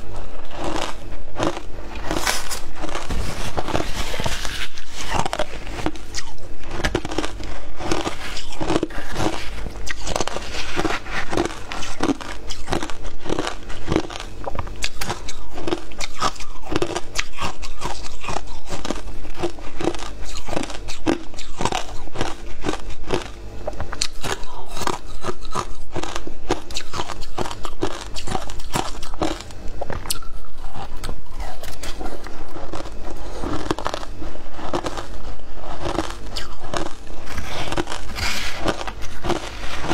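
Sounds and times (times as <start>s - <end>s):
ice being chewed with crunches: 0.0s - 39.9s.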